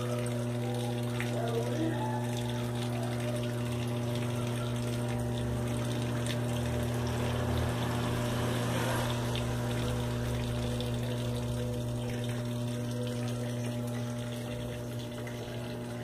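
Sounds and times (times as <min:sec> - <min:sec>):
washing machine motor hum: 0:00.0 - 0:16.0
water moving in washing machine: 0:00.0 - 0:16.0.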